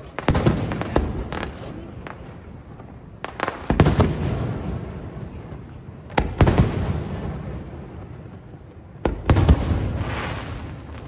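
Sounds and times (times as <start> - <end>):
firework rumble: 0.0 - 11.0.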